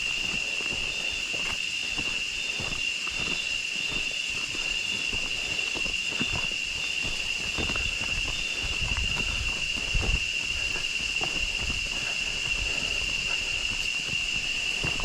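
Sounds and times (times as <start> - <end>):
footsteps on trail: 0.0 - 15.0
insects droning: 0.0 - 15.0.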